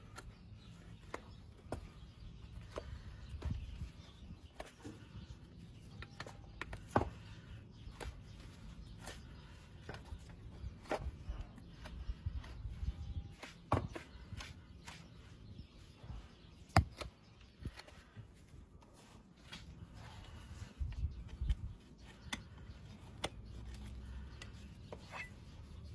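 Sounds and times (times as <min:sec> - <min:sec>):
hoof tools clicking and scraping: 0:00.0 - 0:25.9.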